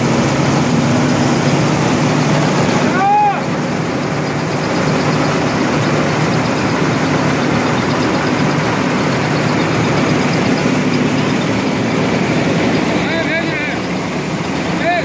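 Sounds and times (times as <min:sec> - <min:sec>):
rice mill machinery droning: 0:00.0 - 0:15.0.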